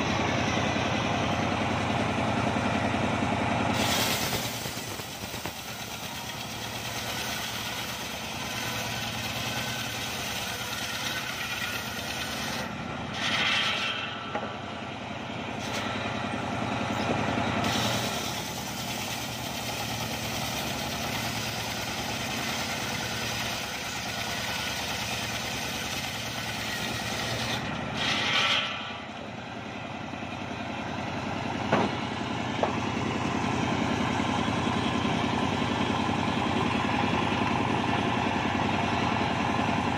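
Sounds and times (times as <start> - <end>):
circular sawmill cutting log: 0.0 - 39.9
engine running: 0.0 - 39.9.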